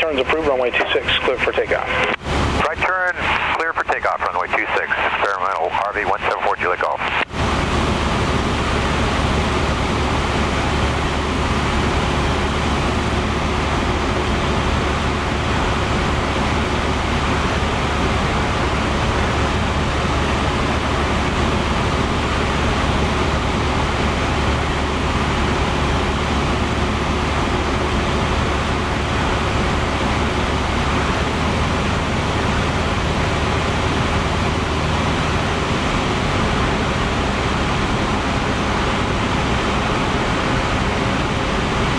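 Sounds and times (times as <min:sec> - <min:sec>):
propeller plane engine droning: 0:00.0 - 0:41.9.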